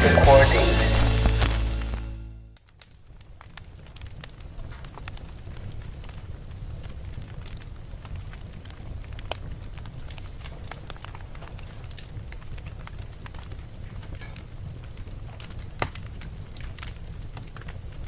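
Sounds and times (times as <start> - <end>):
fire crackling and popping: 0.0 - 18.0
fire rumbling in fireplace: 2.6 - 18.0.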